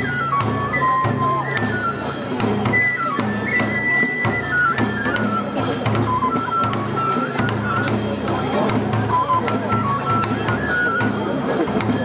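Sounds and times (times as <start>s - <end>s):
bamboo flute melody: 0.0s - 12.0s
repeating drum beat: 0.0s - 12.0s.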